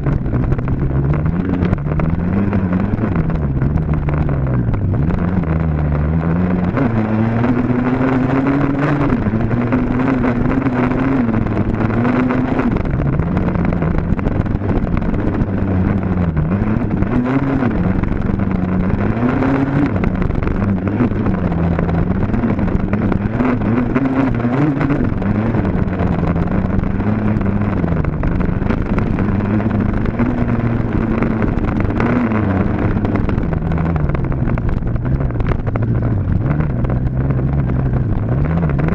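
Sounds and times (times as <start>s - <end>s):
dirt bike engine revving: 0.7s - 35.6s.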